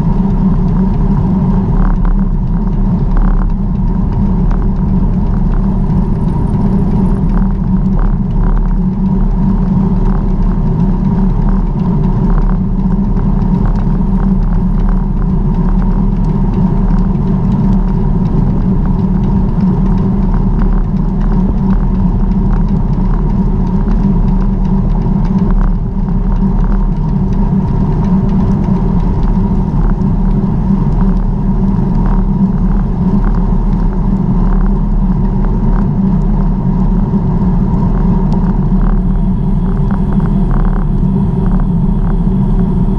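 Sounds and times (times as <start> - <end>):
faint repeating ticks: 0.0 - 42.9
wind and road noise rumble: 0.0 - 42.9.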